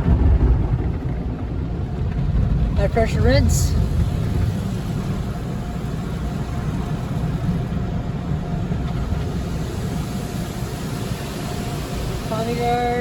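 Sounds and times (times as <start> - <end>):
car engine idling: 0.0 - 13.0
water jets spraying over car: 0.0 - 13.0.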